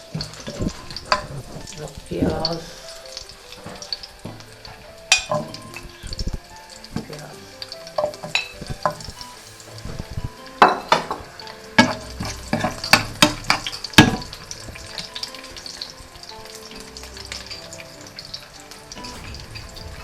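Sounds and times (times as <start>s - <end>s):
onion sizzling in oil: 0.0s - 20.0s.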